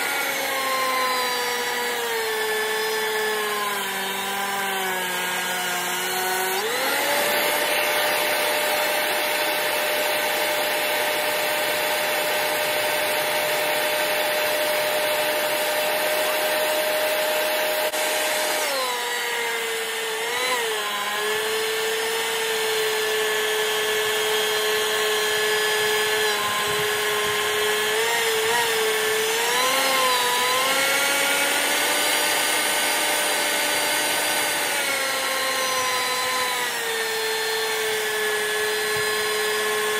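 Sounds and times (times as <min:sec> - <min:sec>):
cutter head rushing: 0:00.0 - 0:39.9
thickness planer motor whine: 0:00.0 - 0:39.9.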